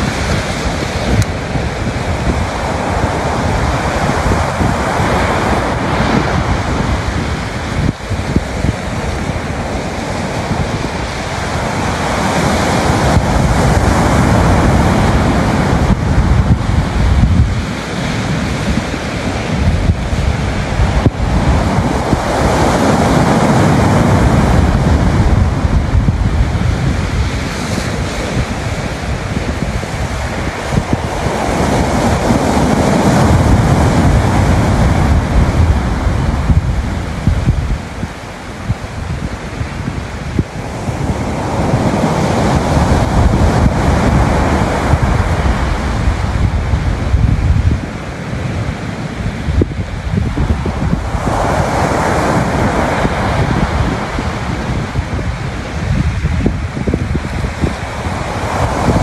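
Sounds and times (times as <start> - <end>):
waves breaking on shingle beach: 0.0 - 59.0
wind buffeting microphone: 0.0 - 59.0.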